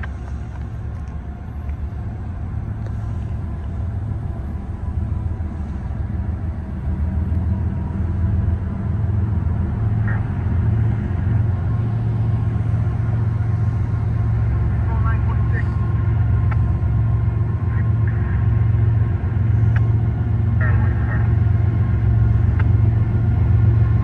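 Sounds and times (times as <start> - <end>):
diesel locomotive engines rumbling: 0.0 - 24.0.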